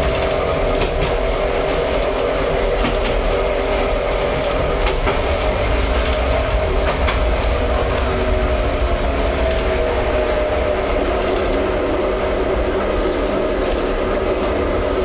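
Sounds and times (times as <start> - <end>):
tram wheels rumbling on rail: 0.0 - 15.0.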